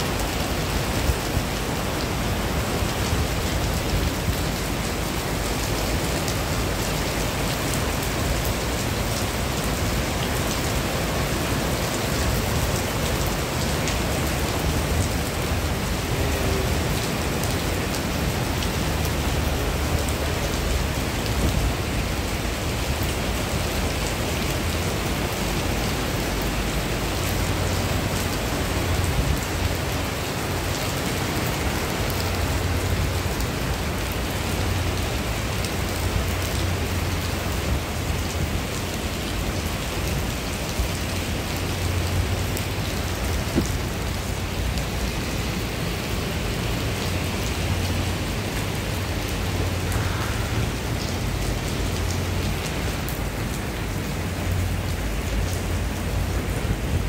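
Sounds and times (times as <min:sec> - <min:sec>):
heavy rain on paving: 0:00.0 - 0:57.0.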